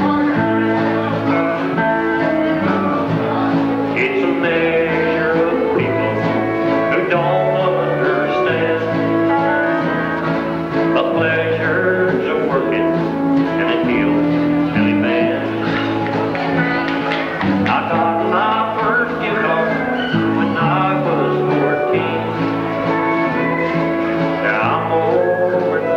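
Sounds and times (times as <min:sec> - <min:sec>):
bass line: 0:00.0 - 0:25.9
live country band playing: 0:00.0 - 0:25.9.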